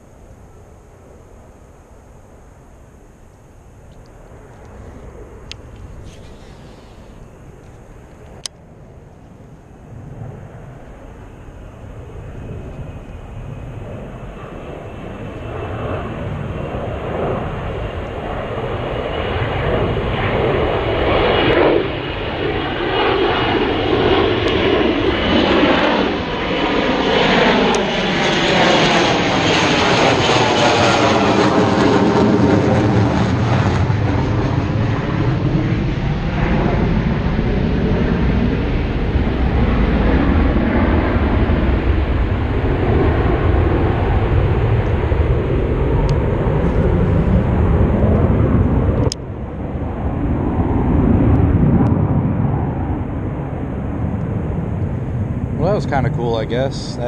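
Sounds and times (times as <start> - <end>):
faint high engine whine: 0.0 - 57.0
jet aircraft passing overhead: 0.0 - 57.0.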